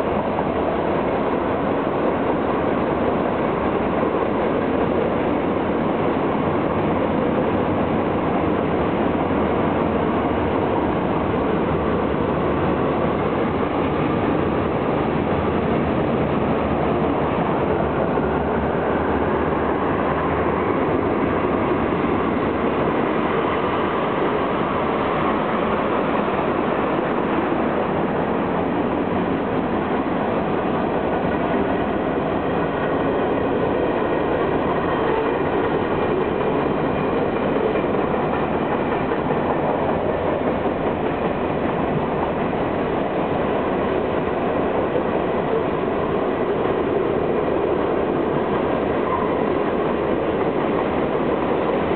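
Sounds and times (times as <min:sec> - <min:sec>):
freight train wheels clattering: 0:00.0 - 0:51.9.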